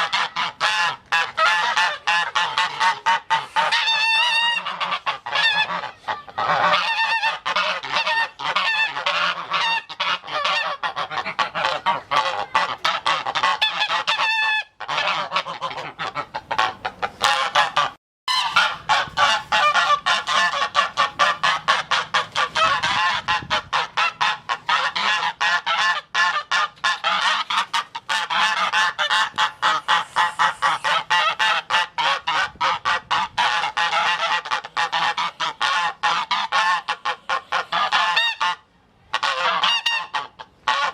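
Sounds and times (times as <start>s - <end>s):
geese honking: 0.0s - 40.9s.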